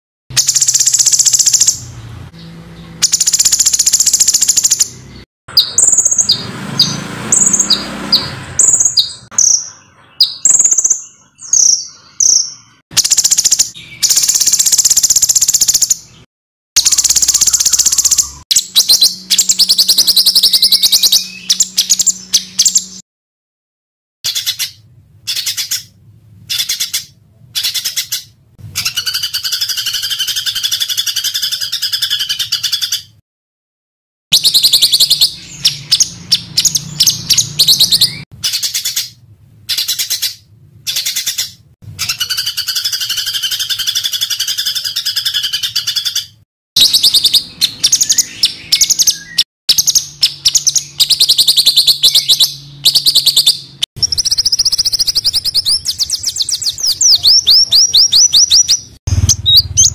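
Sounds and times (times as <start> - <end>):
small songbirds singing: 0.3 - 23.0, 24.2 - 33.2, 34.3 - 59.9.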